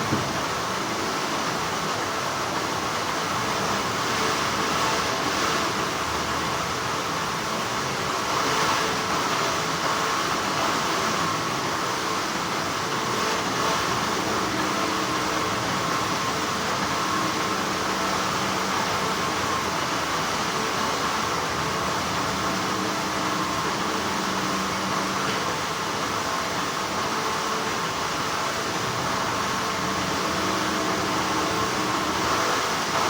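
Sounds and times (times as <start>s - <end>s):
factory machinery humming: 0.0s - 33.0s.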